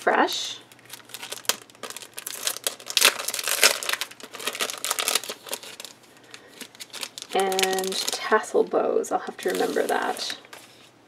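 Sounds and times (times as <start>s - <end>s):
plastic packaging crinkling: 0.1s - 10.9s.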